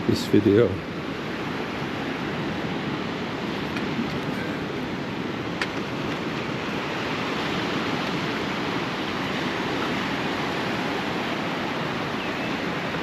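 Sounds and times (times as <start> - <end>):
waves washing onto rocky shore: 0.0 - 13.0.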